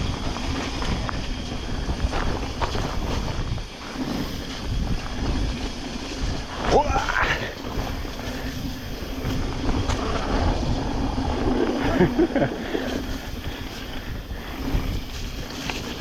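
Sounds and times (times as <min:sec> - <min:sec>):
bike rattling: 0:00.0 - 0:16.0
tyres on wet dirt: 0:00.0 - 0:16.0
wind noise on microphone: 0:00.0 - 0:16.0.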